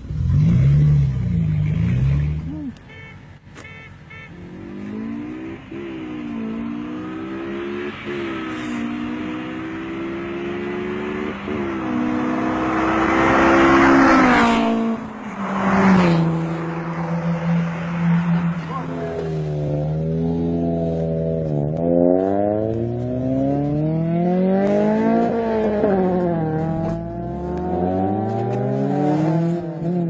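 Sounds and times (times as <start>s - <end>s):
car engine accelerating through gears: 0.0s - 2.8s, 4.4s - 30.0s.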